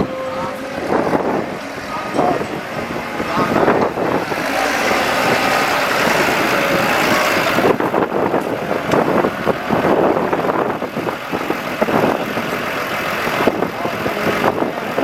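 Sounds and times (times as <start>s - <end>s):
diesel engines of farm vehicles: 0.0s - 15.0s.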